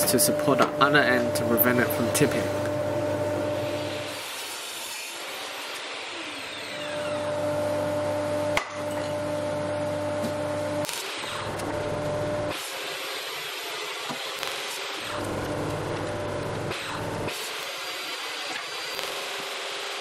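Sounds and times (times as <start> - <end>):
table saw cutting wood: 0.0 - 20.0.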